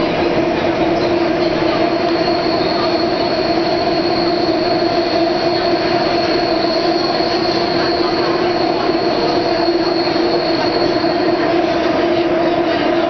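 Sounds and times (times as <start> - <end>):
subway train rumble and whine: 0.0 - 13.0.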